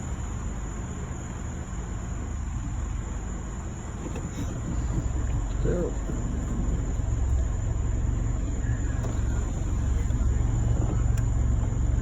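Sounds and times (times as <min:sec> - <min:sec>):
fire engine idling: 0:00.0 - 0:12.0.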